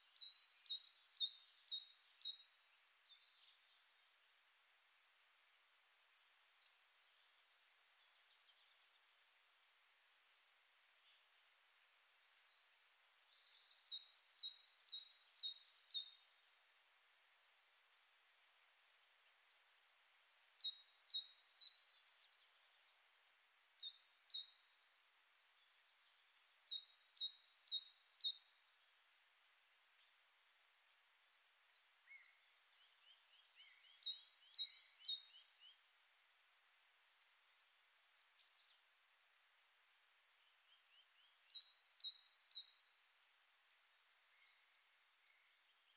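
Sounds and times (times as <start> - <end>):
soft bird chirps: 0.0 - 39.2, 40.2 - 45.9
songbird singing: 0.0 - 45.9.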